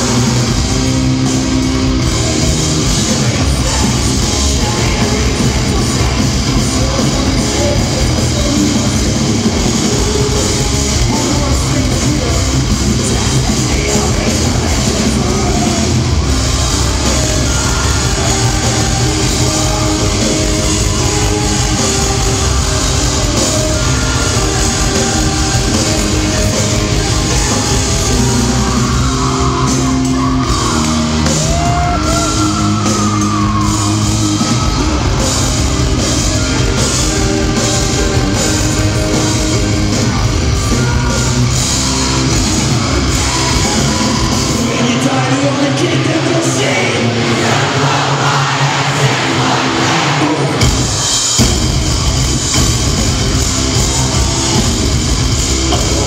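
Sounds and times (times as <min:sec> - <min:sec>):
singer shouting and singing: 0:00.0 - 0:51.4, 0:53.3 - 0:56.0
bass: 0:00.0 - 0:56.0
distorted guitars: 0:00.0 - 0:56.0
drums: 0:00.0 - 0:56.0.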